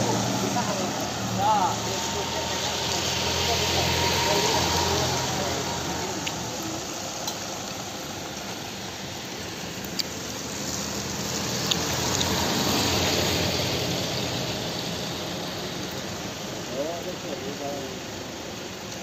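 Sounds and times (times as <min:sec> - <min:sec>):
engine-like running noise: 0:00.0 - 0:19.0.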